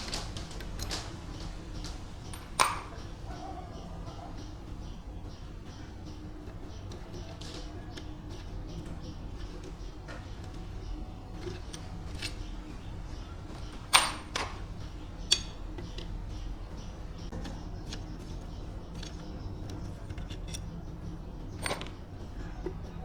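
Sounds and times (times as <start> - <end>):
tools clicking and knocking: 0.0 - 23.0.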